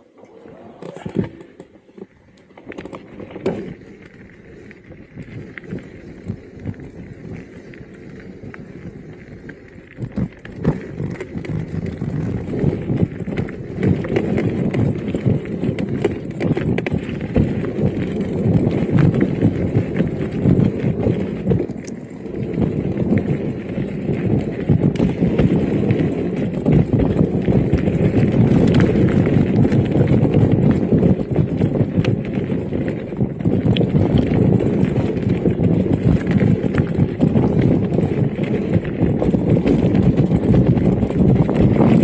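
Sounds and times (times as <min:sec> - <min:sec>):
bike knocking and rattling: 0:00.0 - 0:42.0
bike tyre rumble: 0:00.0 - 0:42.0.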